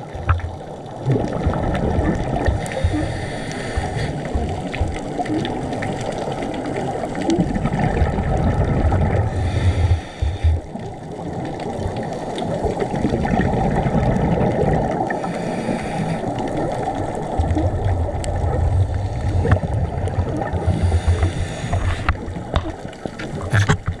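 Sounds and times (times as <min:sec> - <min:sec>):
exhaled bubbles burbling: 0:00.0 - 0:24.0.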